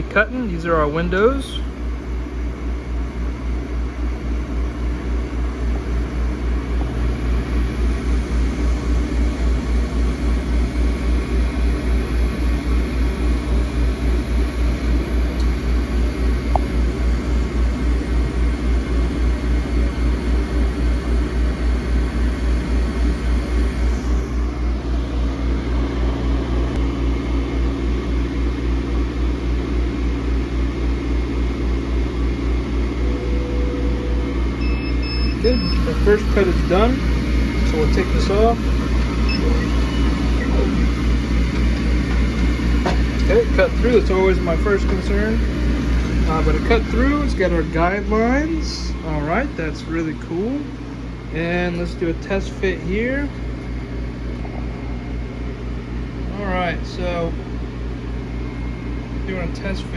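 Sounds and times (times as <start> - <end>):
laser cutter throbbing hum: 0.0 - 59.9.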